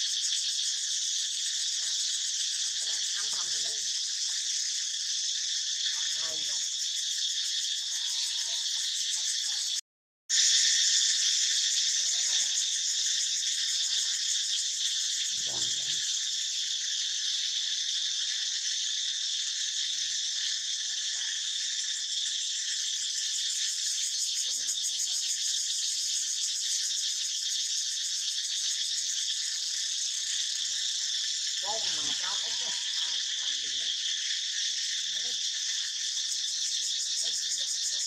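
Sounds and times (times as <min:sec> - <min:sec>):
insect chorus buzzing: 0:00.0 - 0:38.0.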